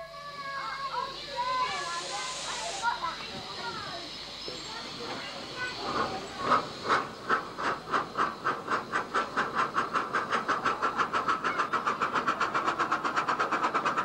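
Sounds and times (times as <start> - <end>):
steam locomotive exhaust beats: 0.0 - 14.0.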